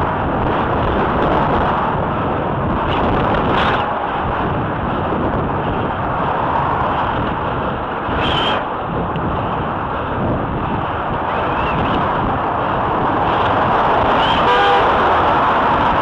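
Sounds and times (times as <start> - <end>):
car engine and tyre noise: 0.0 - 16.0
wind on microphone: 0.0 - 16.0.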